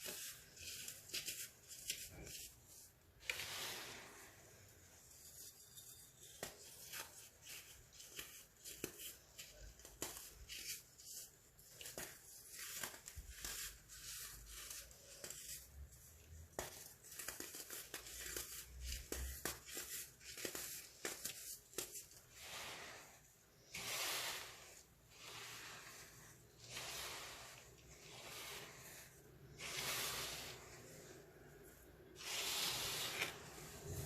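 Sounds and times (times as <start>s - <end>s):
baking soda crunching: 0.0s - 34.0s.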